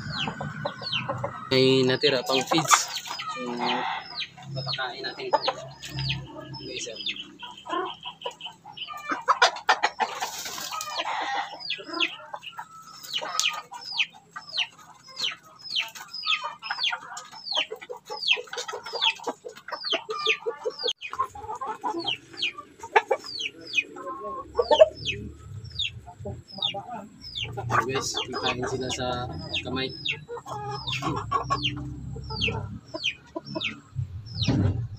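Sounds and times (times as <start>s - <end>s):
chickens clucking and peeping: 0.0s - 34.9s.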